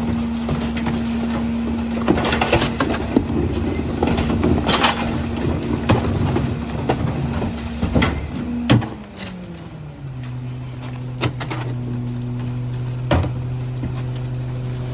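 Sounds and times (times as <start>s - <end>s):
garbage truck compactor humming: 0.0s - 14.9s
trash cracking and snapping: 0.0s - 14.9s.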